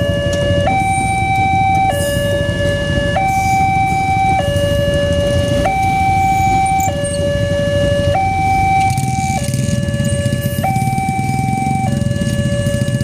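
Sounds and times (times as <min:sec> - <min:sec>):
two-tone crossing siren: 0:00.0 - 0:13.0.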